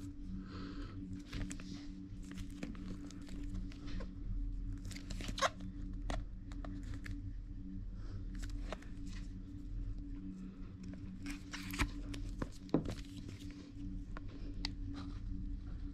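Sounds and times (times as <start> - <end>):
low hum: 0.0 - 15.9.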